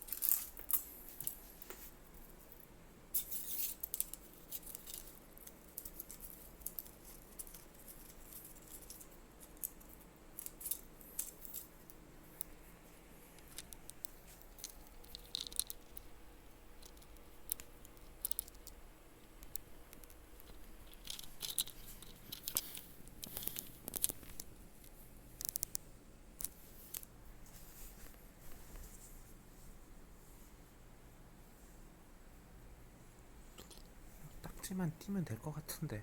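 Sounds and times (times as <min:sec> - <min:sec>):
cat rustling and scratching: 0:00.0 - 0:32.5.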